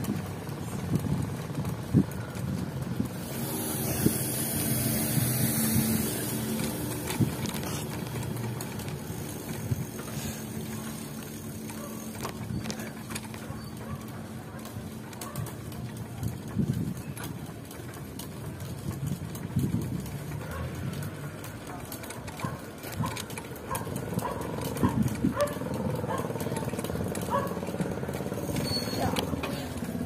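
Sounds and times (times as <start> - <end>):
road noise: 0.0 - 30.0
vehicle engine hum: 0.0 - 30.0.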